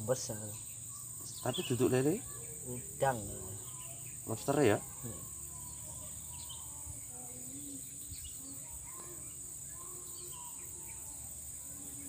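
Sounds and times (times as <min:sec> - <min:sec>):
faint bird chirps: 0:00.0 - 0:12.0
insects trilling: 0:00.0 - 0:12.0.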